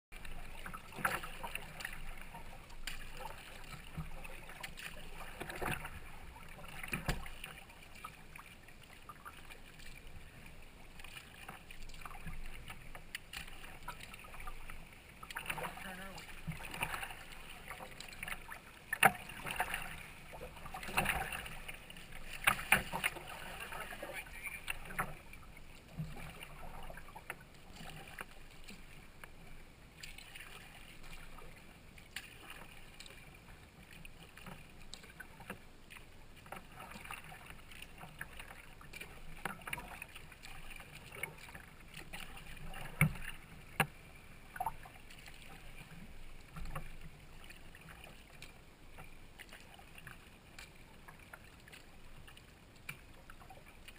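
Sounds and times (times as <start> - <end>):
paddle splashing in water: 0.1 - 53.9.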